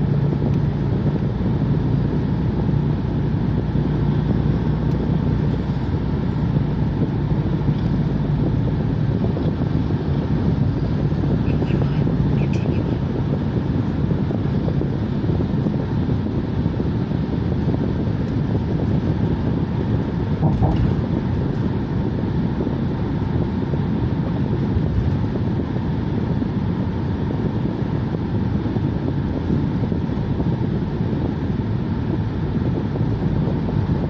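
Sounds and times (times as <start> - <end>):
car engine rumble: 0.0 - 34.0.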